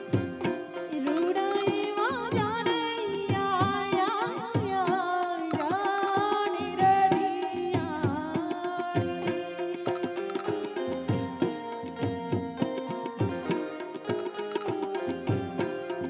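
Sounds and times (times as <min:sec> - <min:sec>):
instrumental accompaniment: 0:00.0 - 0:16.0.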